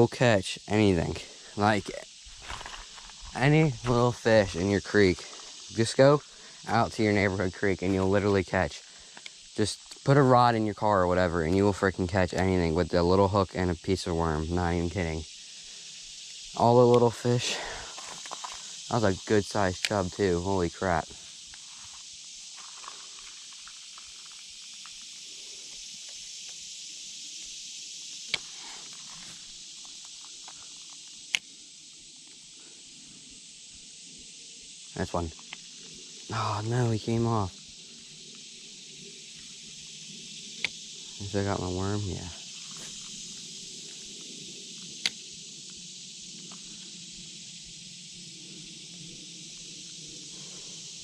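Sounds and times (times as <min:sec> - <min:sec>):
high-pitched insect chorus: 0:00.0 - 0:51.0
high-pitched outdoor hiss: 0:00.0 - 0:51.0.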